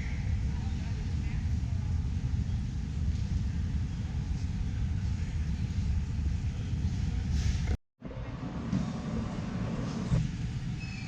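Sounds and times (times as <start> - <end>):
low rumbling hall ambience: 0.0 - 11.0.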